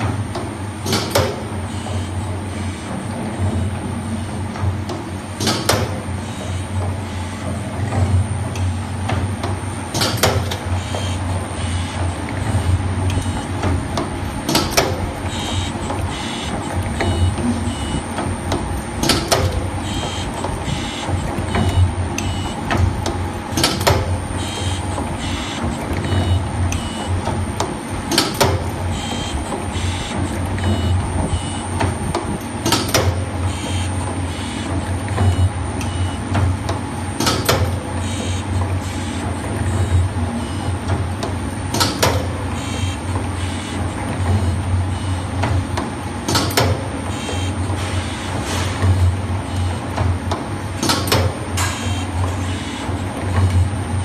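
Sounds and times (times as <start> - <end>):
machine motor hum: 0.0 - 54.0
rhythmic clatter of machine slides: 0.0 - 54.0
loud sharp machine clack: 0.8 - 3.7, 5.4 - 8.7, 9.8 - 17.9, 18.5 - 31.6, 32.6 - 36.1, 37.2 - 40.6, 41.6 - 45.1, 46.2 - 49.8, 50.8 - 53.6.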